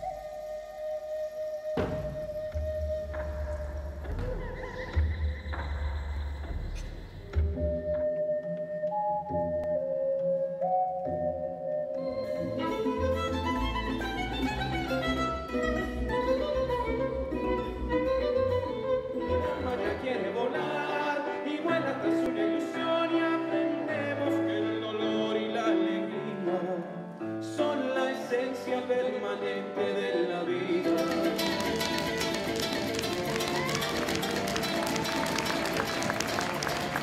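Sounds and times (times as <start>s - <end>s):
live stage show music: 0.0s - 37.0s.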